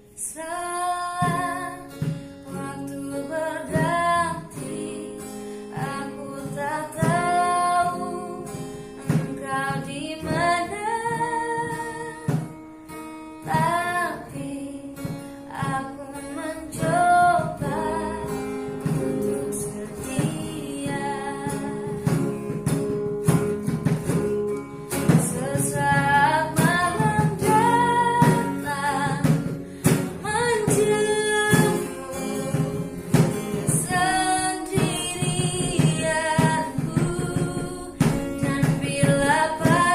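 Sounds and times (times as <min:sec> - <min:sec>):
guitar accompaniment: 0:00.0 - 0:39.9
woman singing: 0:00.0 - 0:39.9.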